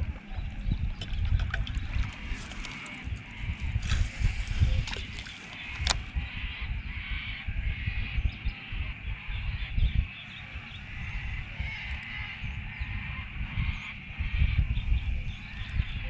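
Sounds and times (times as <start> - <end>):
birds chirping and calling: 0.0 - 16.0
wind buffeting microphone: 0.0 - 16.0.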